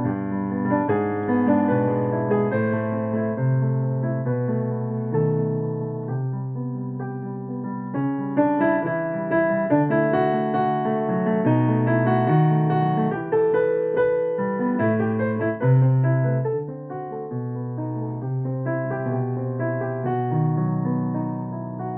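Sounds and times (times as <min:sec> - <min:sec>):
solo piano music: 0:00.0 - 0:21.9.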